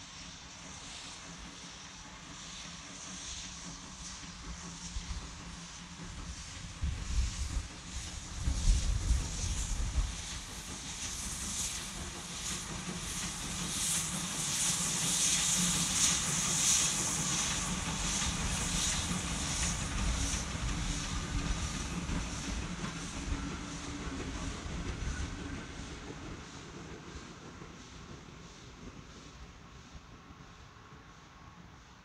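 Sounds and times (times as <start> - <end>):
steam hissing: 0.0 - 32.0
train rumbling: 0.0 - 32.0.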